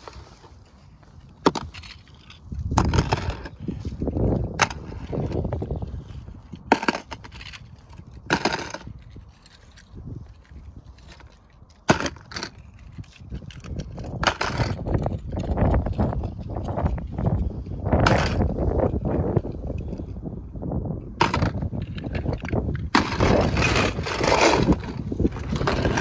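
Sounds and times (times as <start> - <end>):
low rustling and rumble: 0.0 - 26.0.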